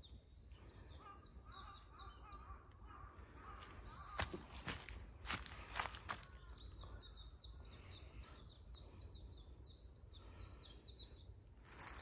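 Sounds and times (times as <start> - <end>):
songbird singing faintly: 0.0 - 12.0.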